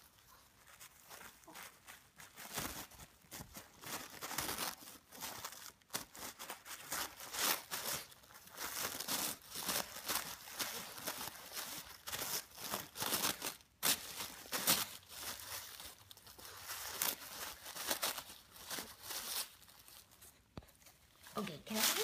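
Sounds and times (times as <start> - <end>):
tissue paper crinkling: 0.0 - 22.0.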